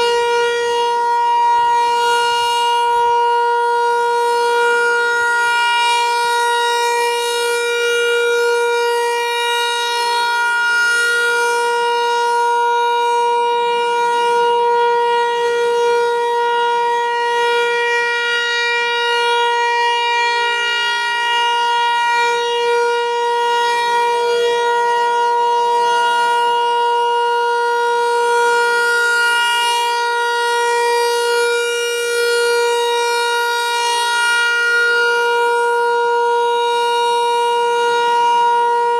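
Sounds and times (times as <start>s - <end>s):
warning siren steady pitch: 0.0s - 38.9s.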